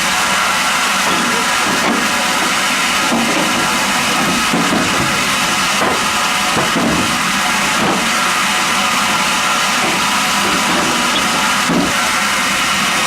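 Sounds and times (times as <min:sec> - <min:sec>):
band sawmill running: 0:00.0 - 0:13.0.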